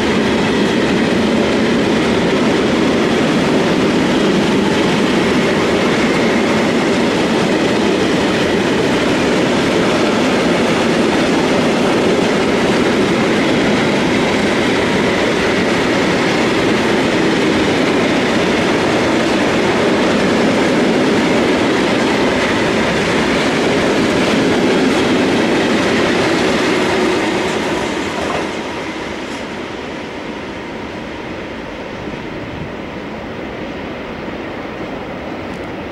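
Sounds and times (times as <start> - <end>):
freight wagons rumbling on rails: 0.0 - 30.5.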